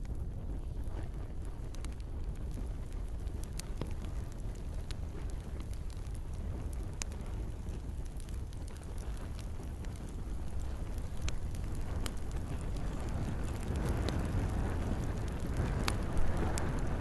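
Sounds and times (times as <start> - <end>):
campfire crackling and popping: 0.0 - 17.0
light rain patter: 0.0 - 17.0
low rush of flame: 0.0 - 17.0.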